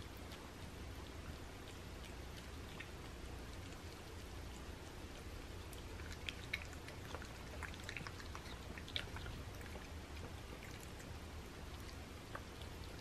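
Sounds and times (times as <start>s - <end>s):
cats licking and chewing: 0.0s - 13.0s.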